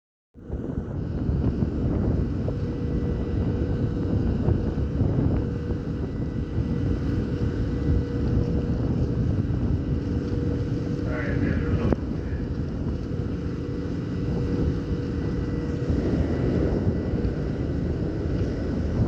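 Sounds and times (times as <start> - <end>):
ferry engines droning: 0.4 - 19.0
wind buffeting microphone: 0.4 - 19.0.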